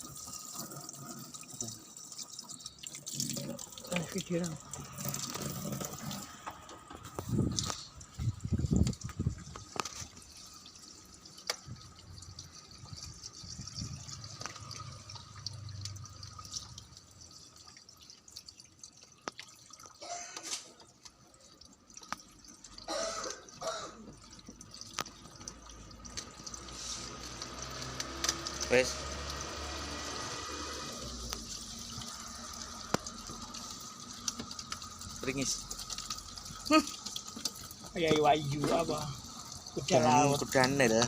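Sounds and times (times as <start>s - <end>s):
water dripping: 0.0s - 41.0s.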